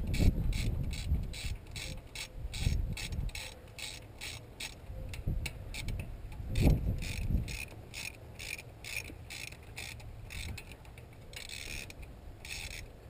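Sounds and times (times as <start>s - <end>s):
hand ratchet clicking: 0.1s - 13.0s.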